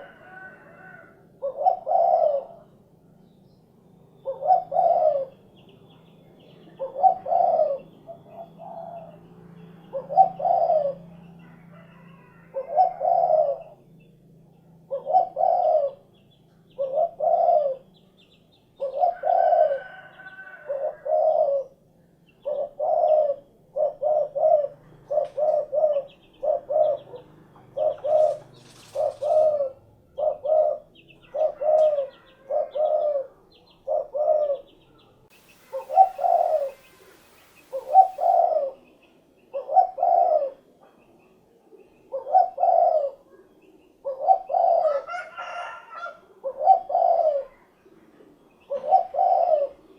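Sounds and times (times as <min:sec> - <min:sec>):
dove cooing: 0:00.0 - 0:02.9, 0:04.2 - 0:05.6, 0:06.6 - 0:13.9, 0:14.8 - 0:18.1, 0:18.7 - 0:21.8, 0:22.4 - 0:40.9, 0:41.8 - 0:49.9.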